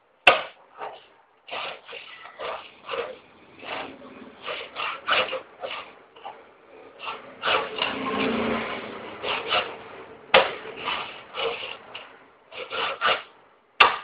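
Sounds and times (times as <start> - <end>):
fingerboard rolling and scraping: 0.8 - 13.3.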